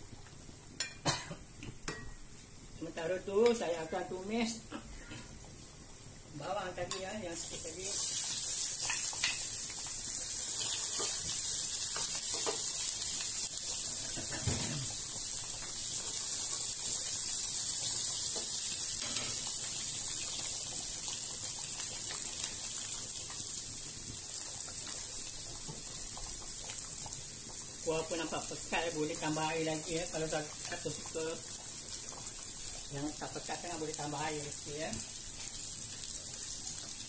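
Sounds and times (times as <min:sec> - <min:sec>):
onions sizzling in hot oil: 0:05.5 - 0:37.0.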